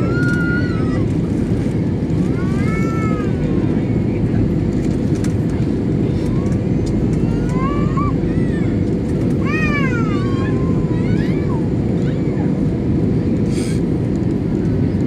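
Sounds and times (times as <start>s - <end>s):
airliner cabin roar: 0.0s - 15.0s.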